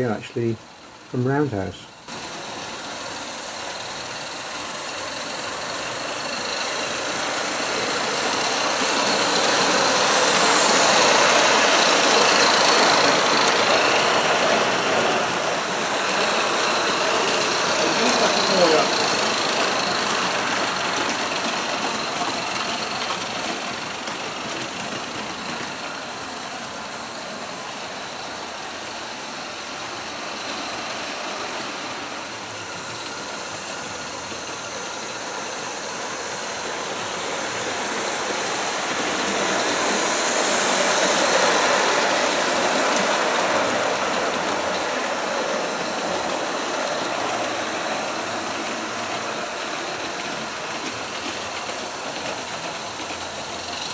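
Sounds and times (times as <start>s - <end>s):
steam locomotive exhaust hiss: 0.0s - 53.9s.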